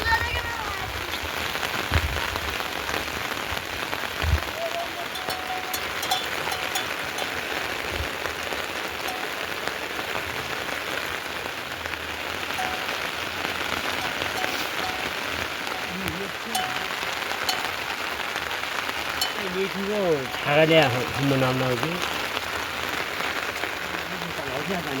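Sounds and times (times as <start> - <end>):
heavy rain falling: 0.0 - 25.0
sharp raindrop impacts: 0.0 - 25.0.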